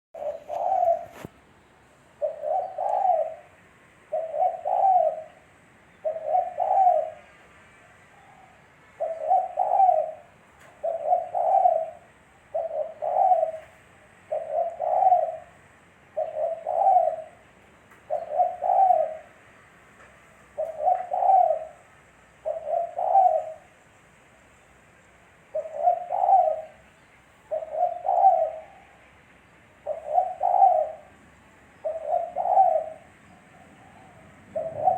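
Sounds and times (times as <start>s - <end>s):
dove cooing: 0.2s - 1.3s, 2.2s - 7.4s, 8.1s - 19.4s, 20.5s - 23.8s, 25.5s - 29.0s, 29.8s - 34.9s.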